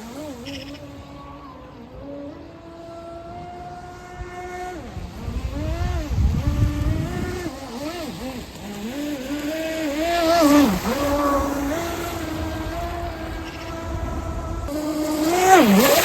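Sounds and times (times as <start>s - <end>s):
electric motor whine: 0.0s - 16.0s
rush of water noise: 0.0s - 16.0s.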